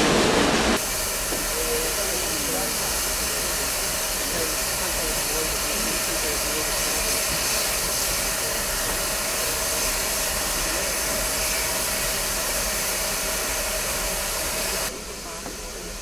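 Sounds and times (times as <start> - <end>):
steam locomotive venting steam: 0.0 - 16.0.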